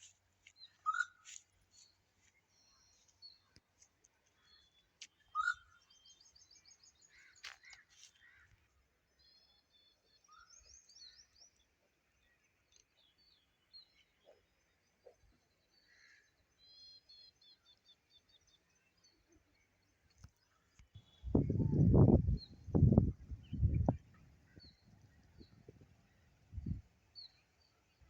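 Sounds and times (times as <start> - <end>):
wild birds calling faintly: 0.0 - 28.0.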